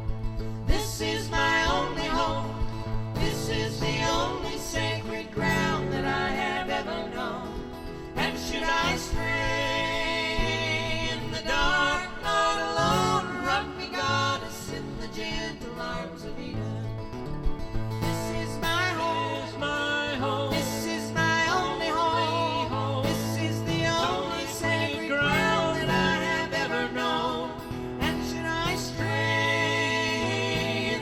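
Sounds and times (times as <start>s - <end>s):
choir singing in harmony: 0.4s - 17.0s, 18.0s - 31.0s.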